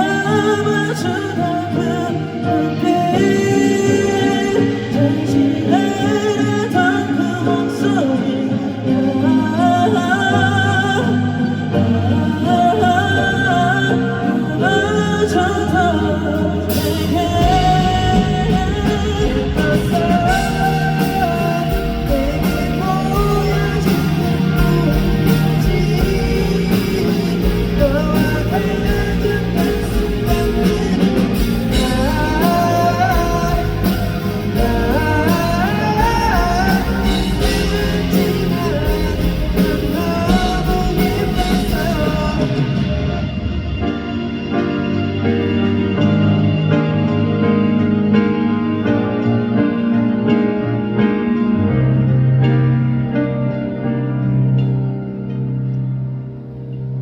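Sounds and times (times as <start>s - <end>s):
man singing lead vocal: 0.0s - 51.5s
live pop-rock band: 0.0s - 57.0s.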